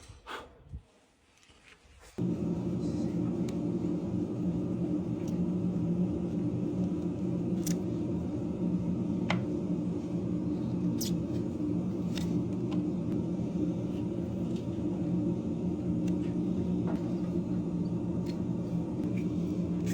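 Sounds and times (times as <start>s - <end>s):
low motor hum: 2.2s - 19.9s.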